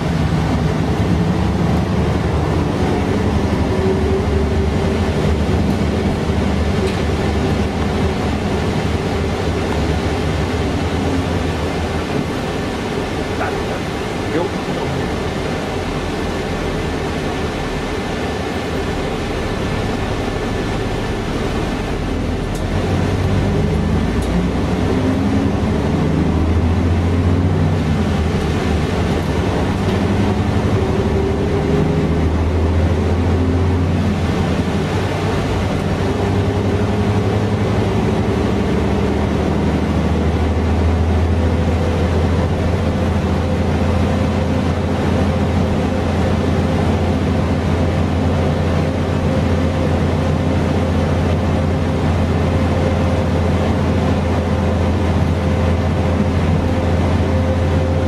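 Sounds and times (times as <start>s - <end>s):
bus diesel engine: 0.0s - 58.0s
road noise: 0.0s - 58.0s.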